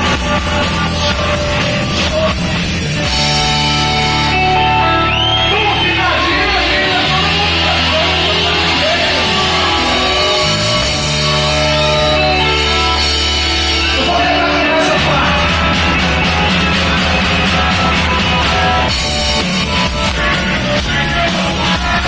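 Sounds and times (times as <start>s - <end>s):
person singing: 0.0s - 4.0s, 6.1s - 13.0s, 13.6s - 22.0s
rock band playing live: 0.0s - 22.0s.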